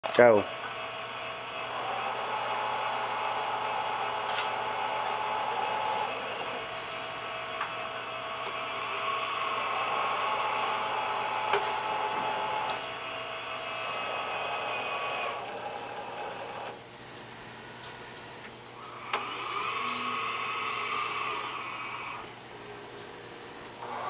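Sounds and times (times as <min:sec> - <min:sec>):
conveyor drive whining: 0:00.0 - 0:24.0.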